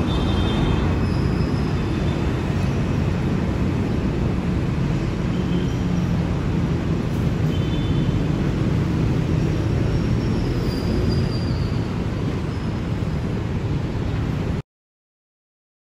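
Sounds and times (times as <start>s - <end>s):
train rumbling: 0.0s - 14.6s.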